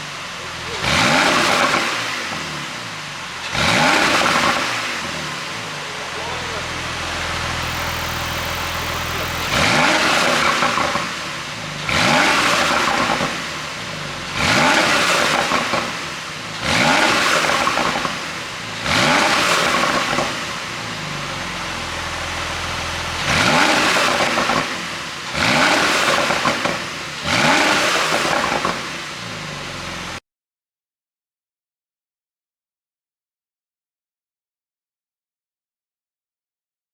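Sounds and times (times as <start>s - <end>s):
car engine idling and revving: 0.0s - 30.2s.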